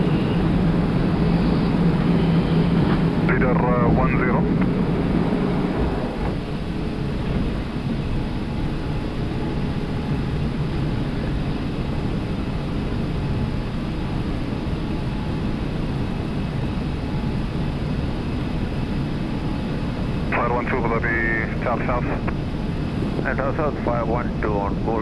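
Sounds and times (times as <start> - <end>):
aircraft engine rumble: 0.0 - 25.0.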